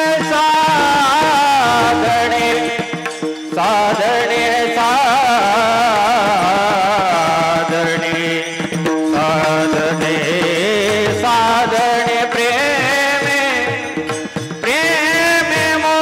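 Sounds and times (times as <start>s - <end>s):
person singing with vibrato: 0.0s - 16.0s
sustained accompaniment: 1.0s - 15.2s.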